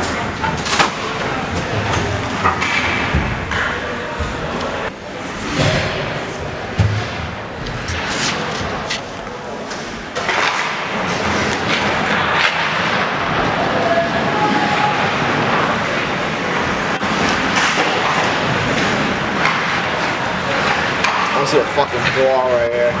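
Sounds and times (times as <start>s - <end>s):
hockey sticks and puck clacking: 0.0s - 23.0s
skates and arena noise: 0.0s - 23.0s.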